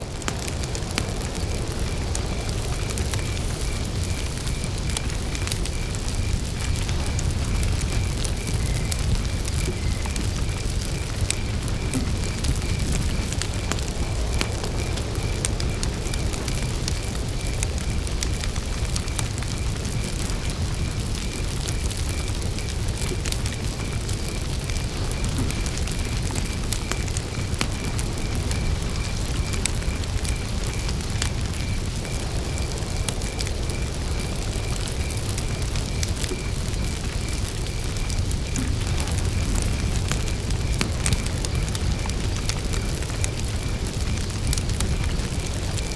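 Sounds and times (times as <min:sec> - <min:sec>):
campfire crackling and popping: 0:00.0 - 0:45.9
low fire rumble: 0:00.0 - 0:45.9
cricket chirping: 0:00.1 - 0:45.9.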